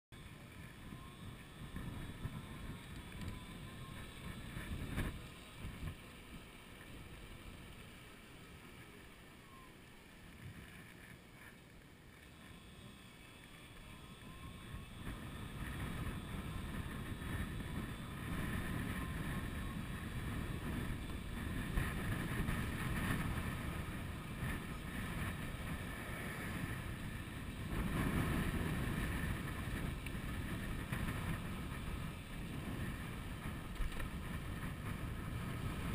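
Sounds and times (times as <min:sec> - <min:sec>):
wind buffeting microphone: 0:00.2 - 0:08.0, 0:08.6 - 0:35.9.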